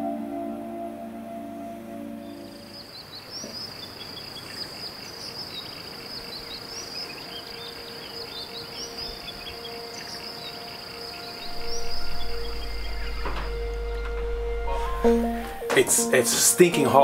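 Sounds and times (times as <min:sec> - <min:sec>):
insects trilling: 0:02.2 - 0:17.0.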